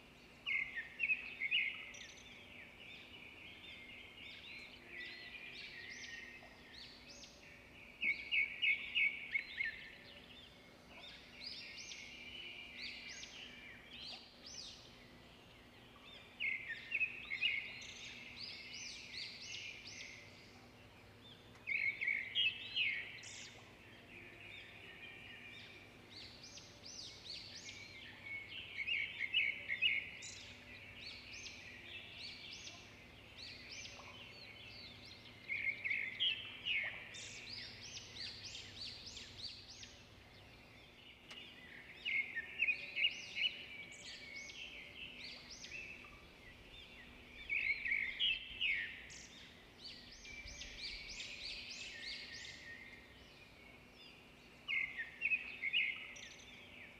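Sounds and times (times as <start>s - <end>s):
birds chirping and twittering: 0.0s - 56.9s.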